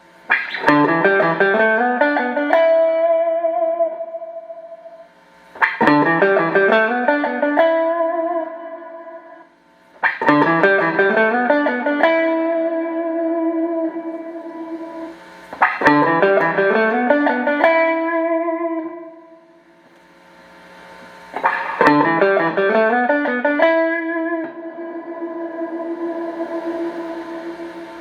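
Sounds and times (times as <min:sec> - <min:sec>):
clean electric guitar arpeggios: 0:00.3 - 0:19.4, 0:21.3 - 0:28.0.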